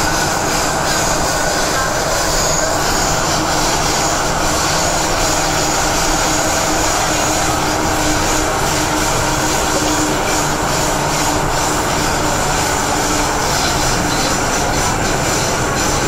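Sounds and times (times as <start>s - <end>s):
train rumbling through tunnel: 0.0s - 16.0s.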